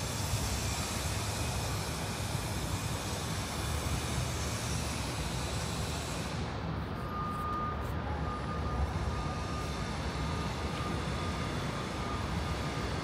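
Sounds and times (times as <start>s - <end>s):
thin steady whine: 0.0s - 13.0s.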